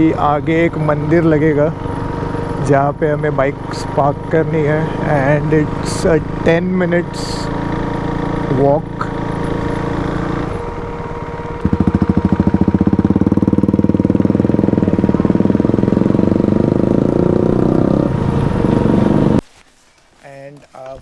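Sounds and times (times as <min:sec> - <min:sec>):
motorcycle engine running: 0:00.0 - 0:19.4
pulsing exhaust note: 0:00.0 - 0:19.4.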